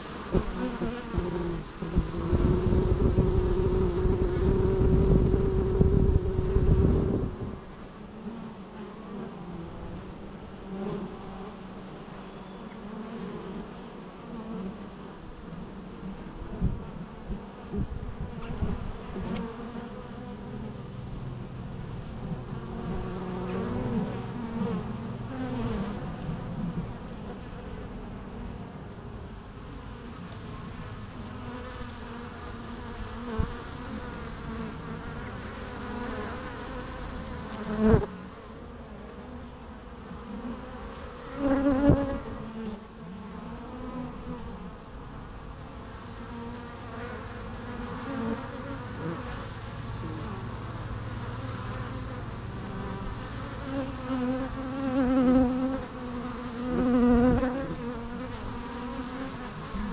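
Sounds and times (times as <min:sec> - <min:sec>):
bees buzzing: 0:00.0 - 0:15.3, 0:17.6 - 0:28.5, 0:29.6 - 0:59.9
single bee passing close: 0:00.0 - 0:28.6, 0:29.5 - 0:59.9.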